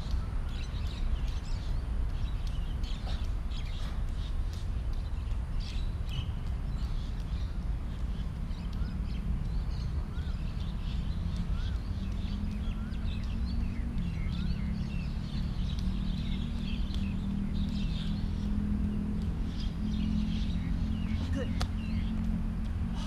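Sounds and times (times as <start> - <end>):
birds calling: 0.0 - 23.0
low steady hum: 0.0 - 23.0.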